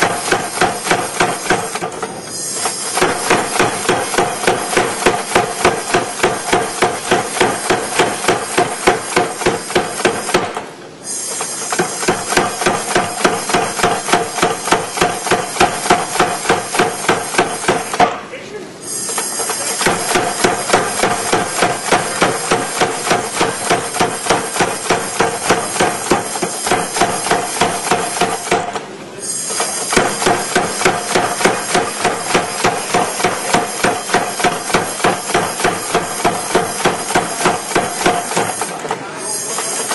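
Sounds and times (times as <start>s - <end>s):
hammer striking steel on anvil: 0.0s - 10.7s, 11.4s - 18.2s, 18.9s - 39.9s.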